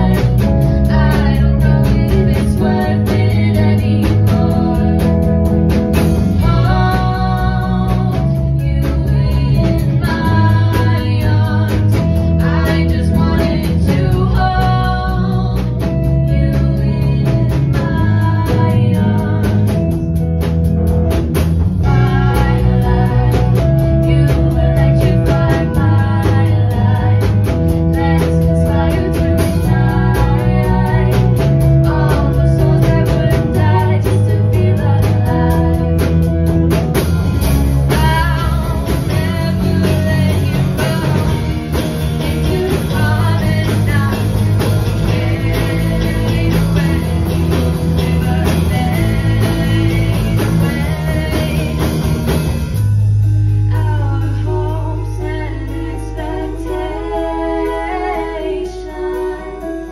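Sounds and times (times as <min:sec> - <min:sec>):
person singing lead vocal: 0:00.0 - 0:20.2, 0:21.8 - 0:36.7, 0:37.8 - 0:52.8, 0:53.7 - 0:59.9
live rock band playing: 0:00.0 - 0:59.9.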